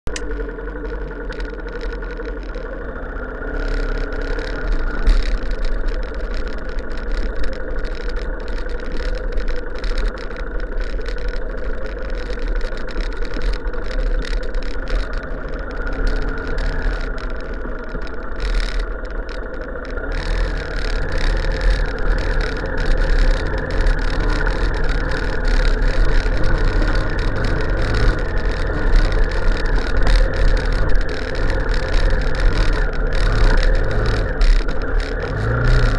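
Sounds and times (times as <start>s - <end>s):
vehicle engine running: 0.0s - 35.9s.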